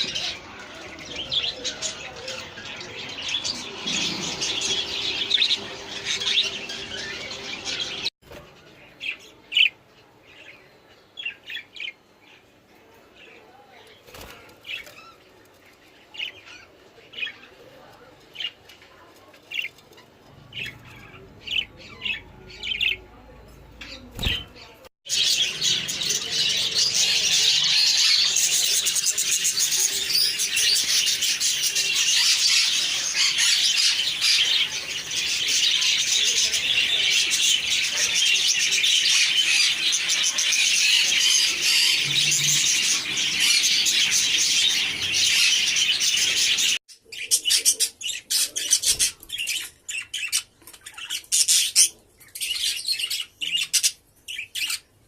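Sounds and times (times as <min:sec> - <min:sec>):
birds chirping: 0:00.0 - 0:55.0
chatter of many birds: 0:00.0 - 0:55.0.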